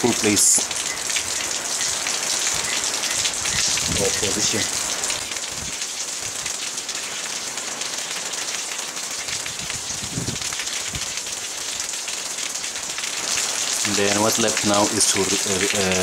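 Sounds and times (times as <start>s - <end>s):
steady rain-like hiss: 0.0s - 16.0s.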